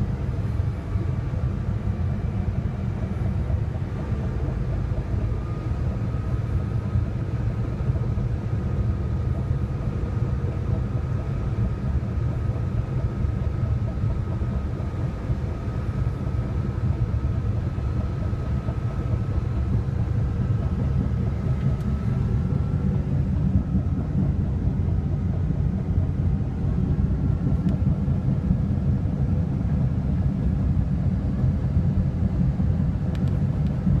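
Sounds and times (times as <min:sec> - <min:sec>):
bulldozer diesel rumble: 0:00.0 - 0:34.0.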